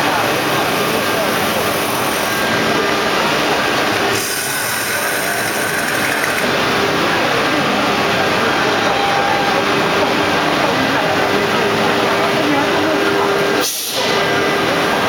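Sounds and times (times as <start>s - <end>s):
woodworking machinery running: 0.0s - 15.0s.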